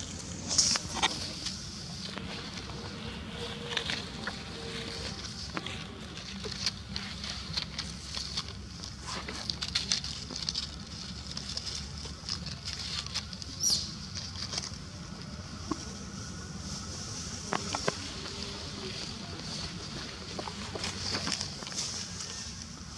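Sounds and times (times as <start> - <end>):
dry leaves rustling: 0.0 - 22.9.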